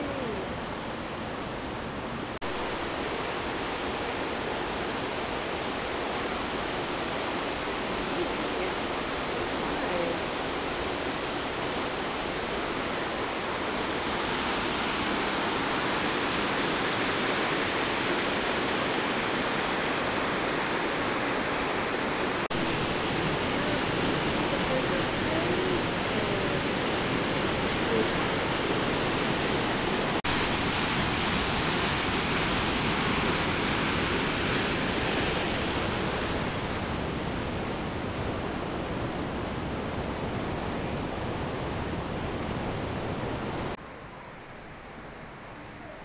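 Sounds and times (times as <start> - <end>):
river rushing over rocks: 0.0 - 45.8
waterfall: 0.0 - 46.0.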